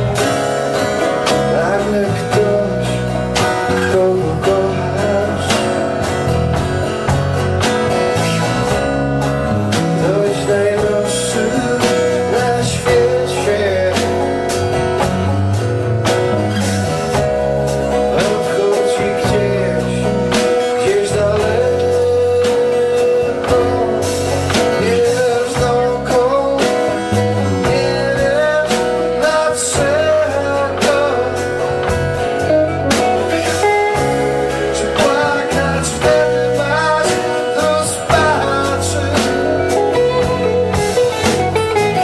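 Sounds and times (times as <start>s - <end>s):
drum kit: 0.0s - 42.0s
electric guitar: 0.0s - 42.0s
strummed acoustic guitar: 0.0s - 42.0s.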